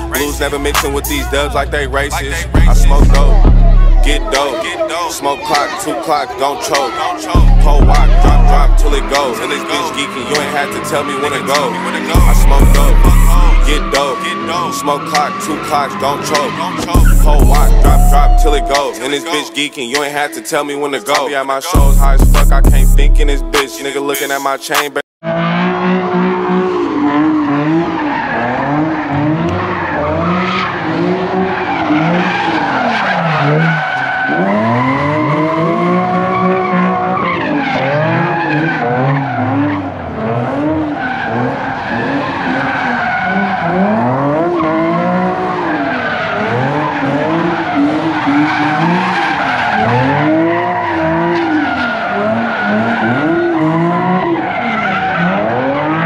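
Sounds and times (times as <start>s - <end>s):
car engine revving: 0.0s - 56.0s
tires screeching: 0.0s - 56.0s.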